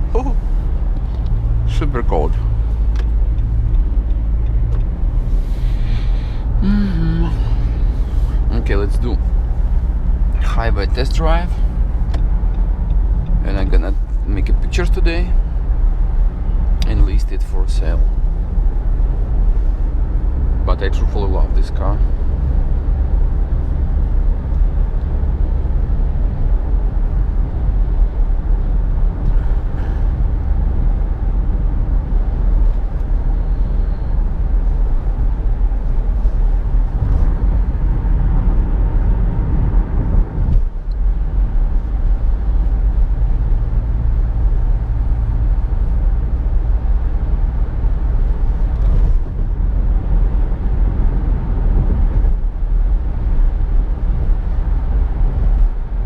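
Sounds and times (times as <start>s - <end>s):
road and engine rumble in car: 0.0s - 56.0s.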